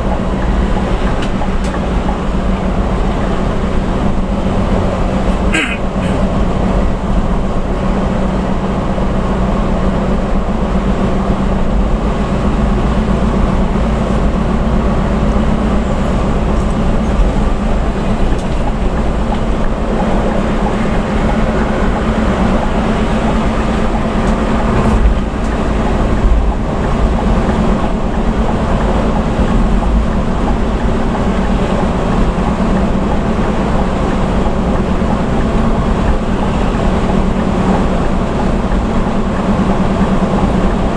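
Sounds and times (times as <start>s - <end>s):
bus engine droning: 0.0s - 40.9s
tyre and road noise: 0.0s - 40.9s.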